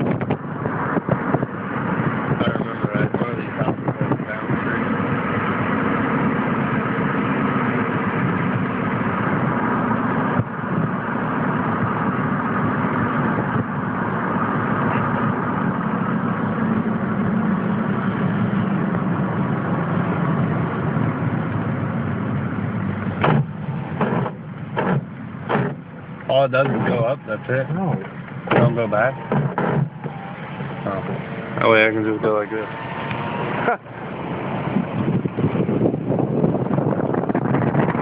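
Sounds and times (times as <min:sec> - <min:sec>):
vehicle engine and road noise: 0:00.0 - 0:38.0.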